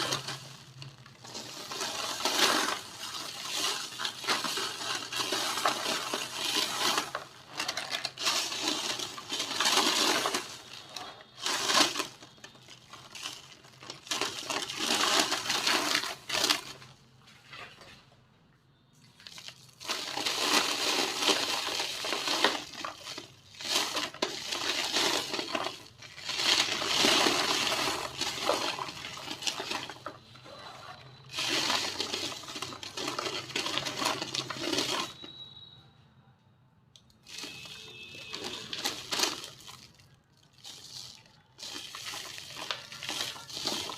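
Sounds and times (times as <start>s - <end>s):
dried cement crumbling: 0.0s - 17.9s, 19.1s - 35.5s, 37.2s - 43.9s.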